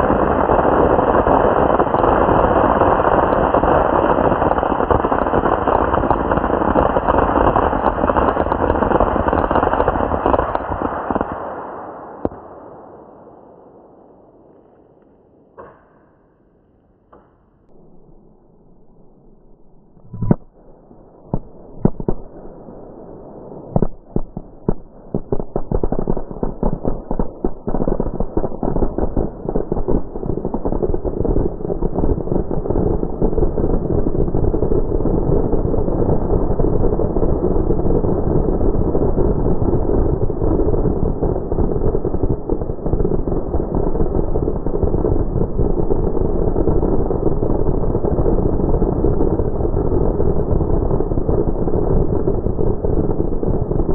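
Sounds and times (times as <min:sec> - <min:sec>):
firecrackers crackling: 0:00.0 - 0:17.7, 0:20.1 - 0:53.9.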